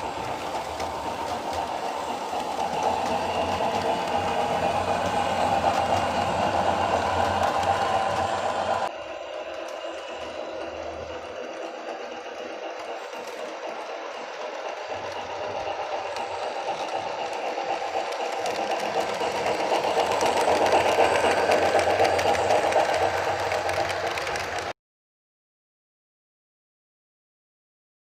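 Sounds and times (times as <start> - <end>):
model steam locomotive chuffing: 0.0 - 24.7.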